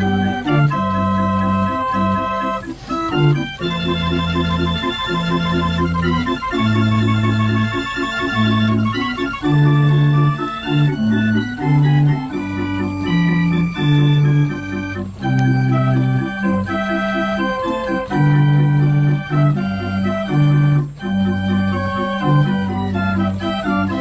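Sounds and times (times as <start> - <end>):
street organ playing a tune: 0.0 - 24.0.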